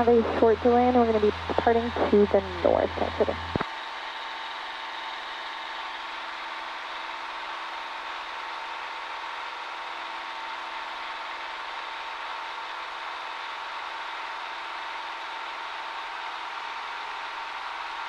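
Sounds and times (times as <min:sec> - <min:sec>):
airplane engine droning in flight: 0:00.0 - 0:18.0.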